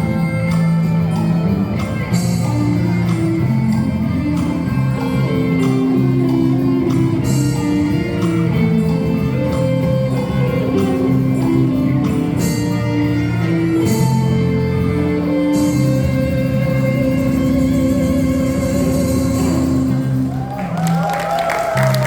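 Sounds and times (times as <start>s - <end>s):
live instrumental ensemble playing: 0.0s - 22.0s.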